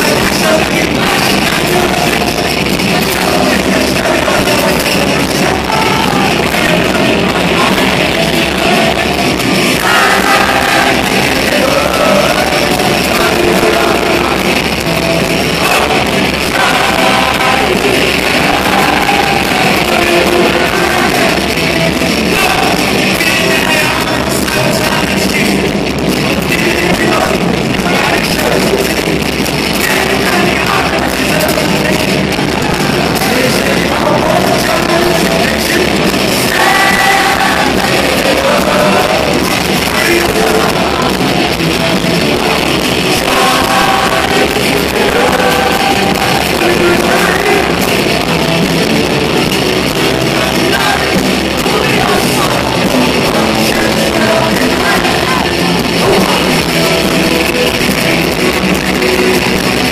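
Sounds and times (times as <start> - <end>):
live rock band: 0.0 - 59.9
man singing: 0.0 - 59.9.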